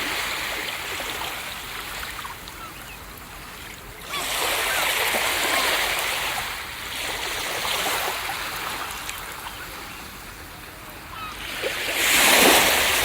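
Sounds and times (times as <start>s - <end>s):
ocean surf washing on beach: 0.0s - 13.0s.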